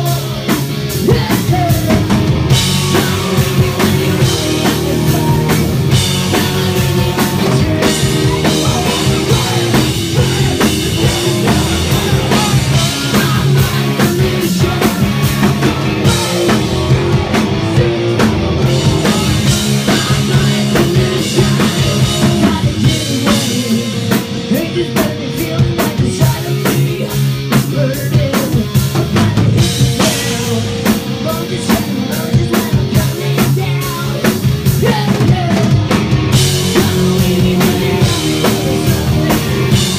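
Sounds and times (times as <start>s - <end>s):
person singing: 0.0s - 35.8s, 36.4s - 39.9s
bass guitar: 0.0s - 39.9s
driving drum kit: 0.0s - 39.9s
electric guitars: 0.0s - 39.9s.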